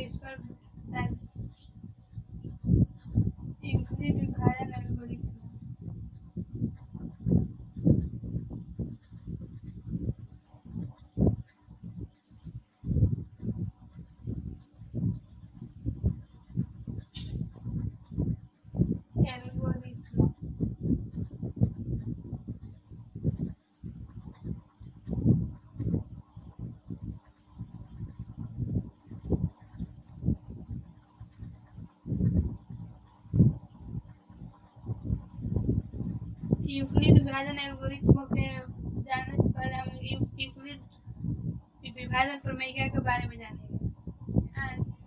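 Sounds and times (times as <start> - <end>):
cricket trill: 0.0 - 45.0.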